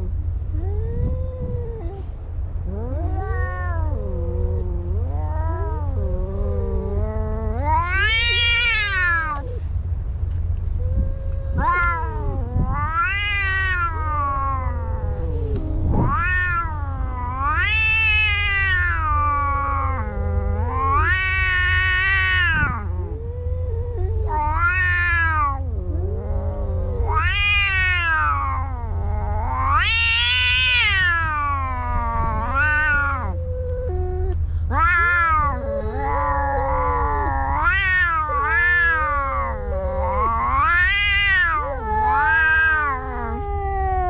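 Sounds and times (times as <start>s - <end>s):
cats yowling: 0.0s - 44.0s.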